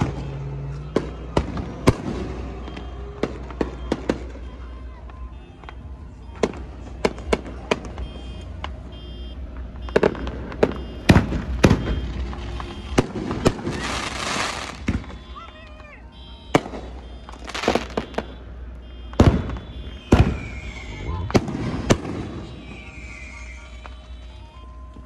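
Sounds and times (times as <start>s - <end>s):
fireworks bangs and cracks: 0.0s - 25.0s.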